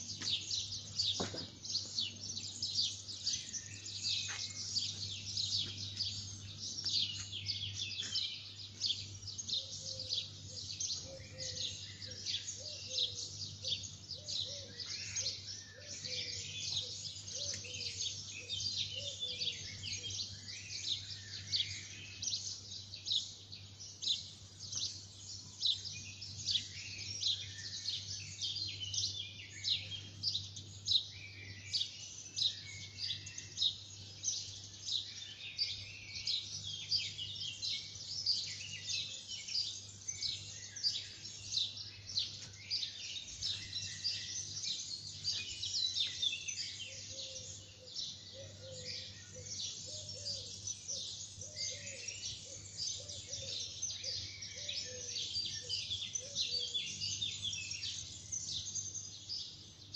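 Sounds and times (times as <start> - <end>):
many small birds chirping: 0.0 - 59.9.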